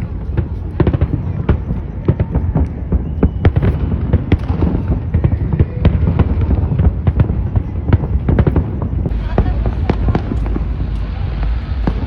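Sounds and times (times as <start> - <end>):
constant low rumble: 0.0 - 12.0
fireworks bangs and crackles: 0.0 - 12.0.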